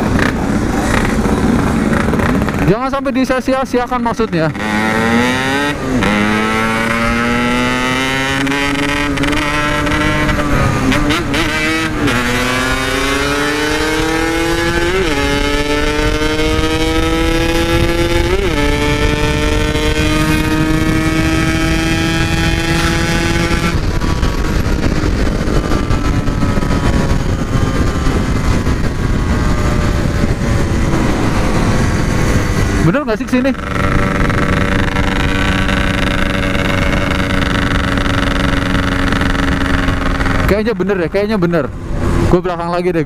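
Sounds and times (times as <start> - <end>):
motorcycle accelerating hard: 0.0 - 43.0
wind rumbling on microphone: 0.0 - 43.0.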